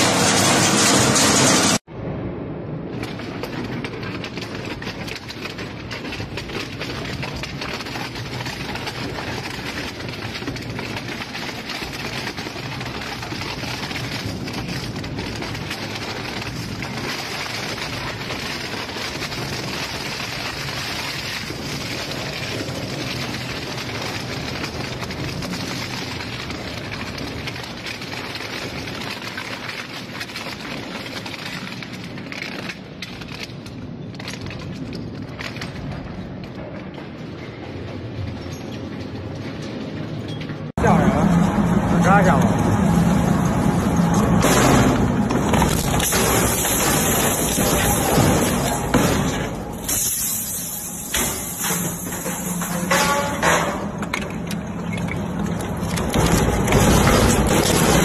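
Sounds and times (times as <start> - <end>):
industrial shredder crushing: 0.0 - 1.8, 3.0 - 36.5, 40.8 - 58.0.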